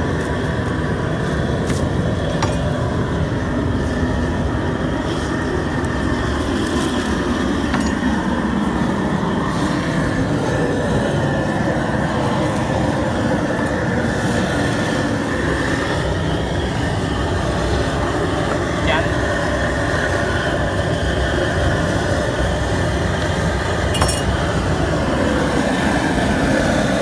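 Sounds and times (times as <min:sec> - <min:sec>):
gas burner roaring: 0:00.0 - 0:27.0.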